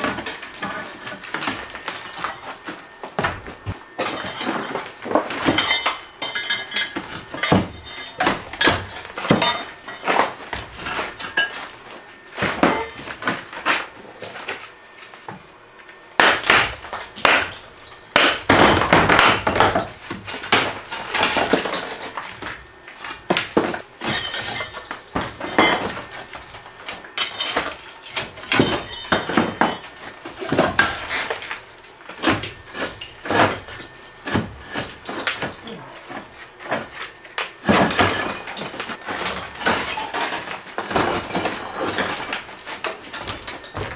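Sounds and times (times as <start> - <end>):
masonry chunks clinking and falling: 0.0 - 11.7, 16.2 - 22.6, 23.2 - 43.9.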